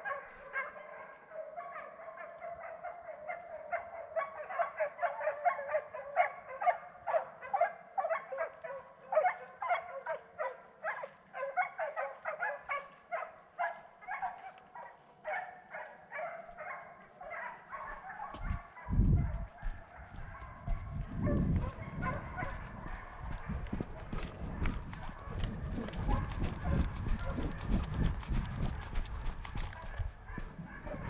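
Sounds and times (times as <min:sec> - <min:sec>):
dogs barking and baying: 0:00.0 - 0:31.0.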